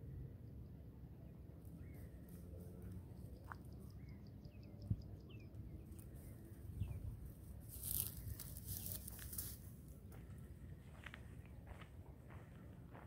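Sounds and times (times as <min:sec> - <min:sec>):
dry grass and shrubs rustling: 0:01.4 - 0:04.6, 0:05.2 - 0:13.0.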